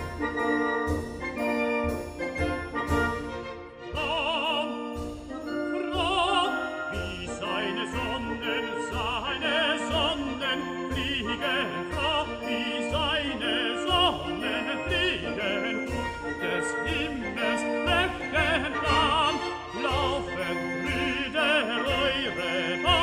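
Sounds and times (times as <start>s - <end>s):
operatic singing with vibrato: 0.0s - 23.0s
orchestral accompaniment: 0.0s - 23.0s.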